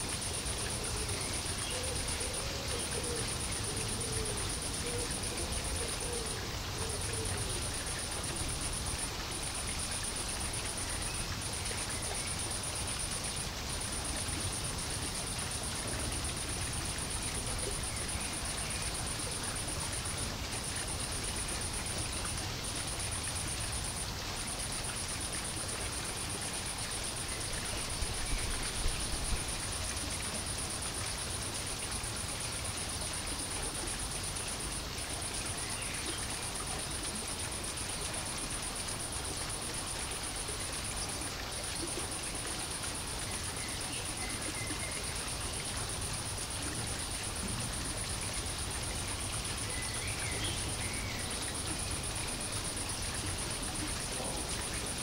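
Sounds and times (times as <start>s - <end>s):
low rumble and hiss: 0.0s - 55.0s.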